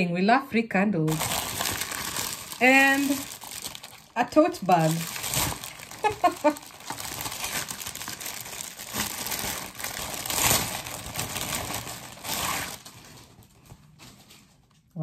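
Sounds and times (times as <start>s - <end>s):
plastic wrapping crinkling: 1.1s - 14.9s.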